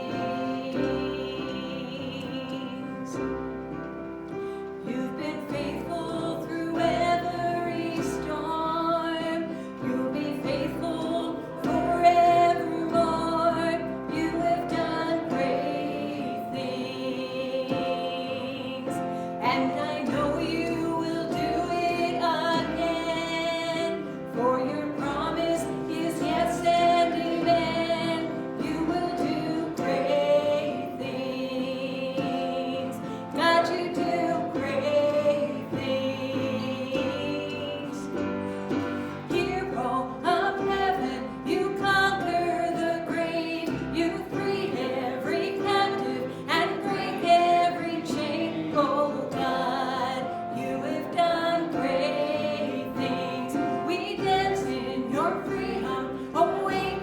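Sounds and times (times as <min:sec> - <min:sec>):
worship song singing with instruments: 0:00.0 - 0:57.0.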